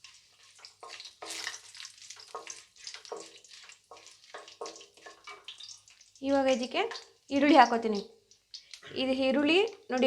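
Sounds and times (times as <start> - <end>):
spices sizzling in oil: 0.0 - 10.0.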